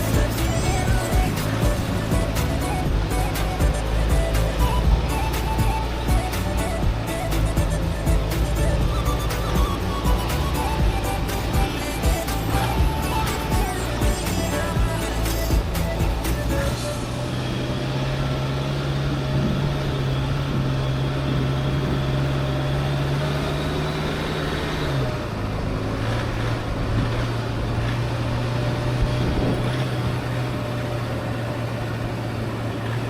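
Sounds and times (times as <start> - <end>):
road and tyre noise: 0.0 - 33.0
vehicle engine droning: 0.0 - 33.0.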